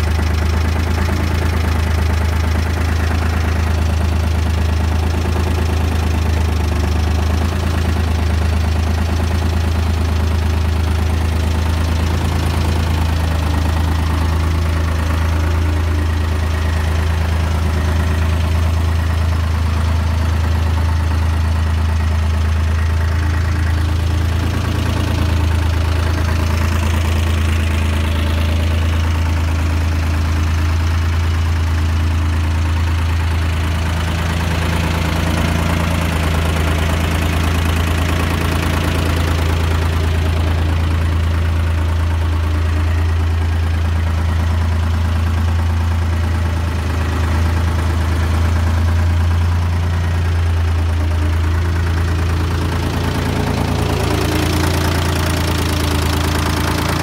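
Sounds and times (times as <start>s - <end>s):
tractor diesel engine humming: 0.0s - 57.0s.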